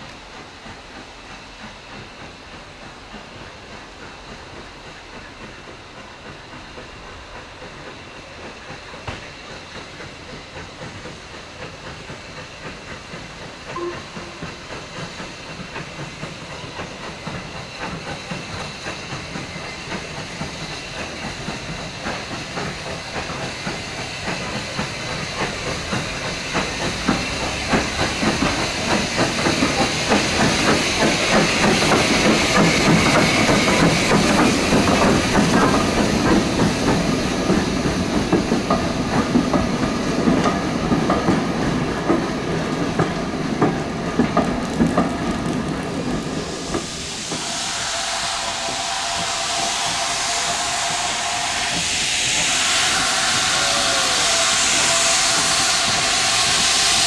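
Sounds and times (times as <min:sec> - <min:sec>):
hissing steam: 0:00.0 - 0:57.0
steam train approaching: 0:00.0 - 0:57.0.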